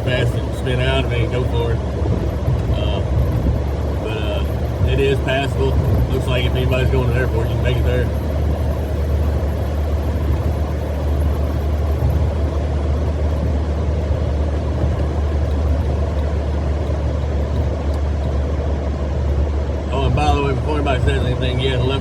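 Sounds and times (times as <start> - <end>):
car cabin road rumble: 0.0 - 22.0.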